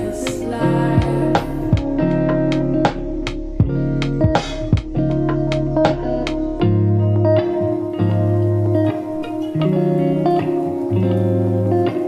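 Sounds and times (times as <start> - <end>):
plucked guitar: 0.0 - 12.0.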